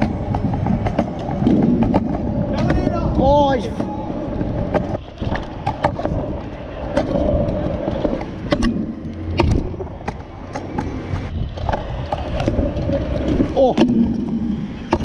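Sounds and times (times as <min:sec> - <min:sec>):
scooter deck clacking on ground: 0:00.0 - 0:15.0
scooter wheels rolling on pavement: 0:00.0 - 0:15.0.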